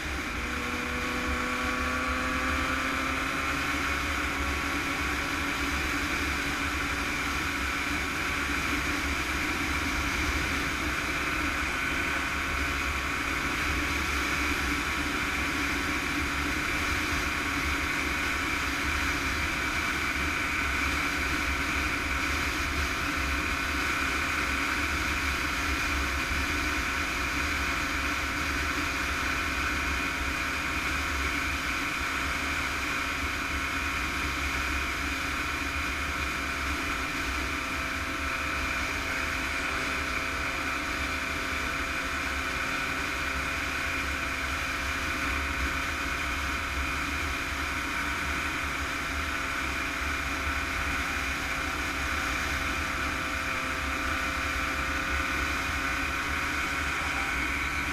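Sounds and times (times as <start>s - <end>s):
two-stroke engine running: 0.0s - 57.9s.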